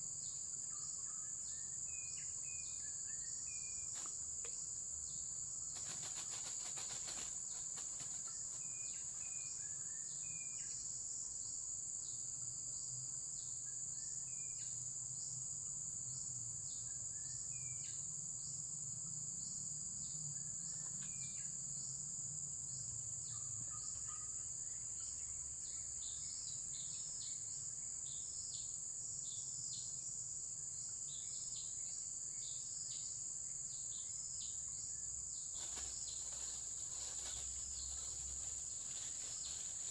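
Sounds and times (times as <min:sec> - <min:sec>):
insect chirps: 0:00.0 - 0:39.9
insects chorus: 0:00.0 - 0:39.9.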